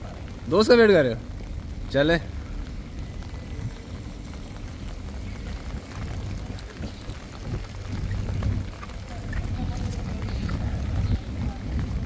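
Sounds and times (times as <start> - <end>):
rain hiss: 0.0 - 12.0
running water: 0.0 - 12.0
wind rumble on microphone: 1.2 - 12.0.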